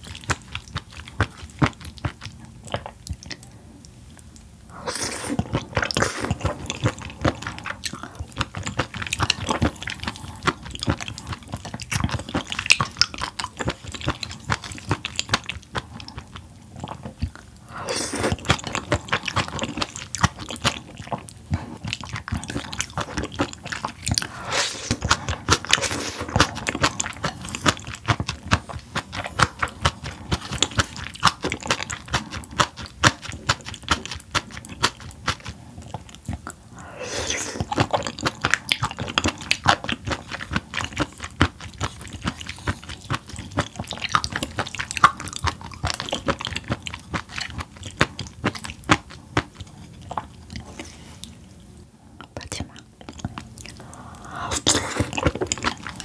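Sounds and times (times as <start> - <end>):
person chewing close up: 0.0 - 56.0.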